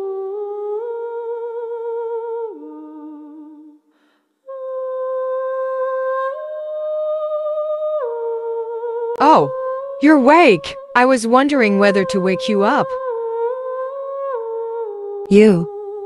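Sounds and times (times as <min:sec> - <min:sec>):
slow wordless melody: 0:00.0 - 0:16.0.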